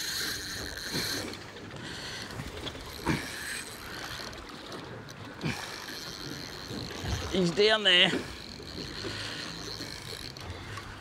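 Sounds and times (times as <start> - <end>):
fishing reel clicking and grinding: 0.0 - 11.0
water against boat: 0.0 - 11.0.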